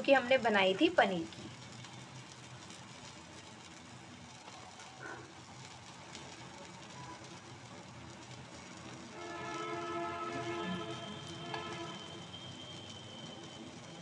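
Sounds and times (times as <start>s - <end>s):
faint sizzle of pancake cooking: 0.0s - 14.0s.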